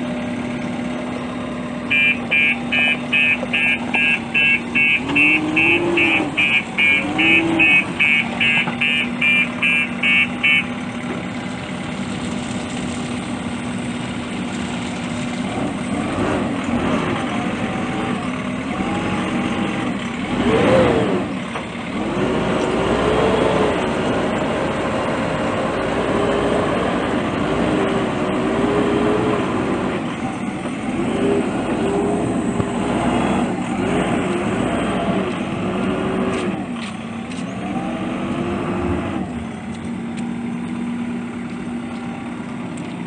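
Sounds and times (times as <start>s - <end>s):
diesel engine running and revving: 0.0s - 43.0s.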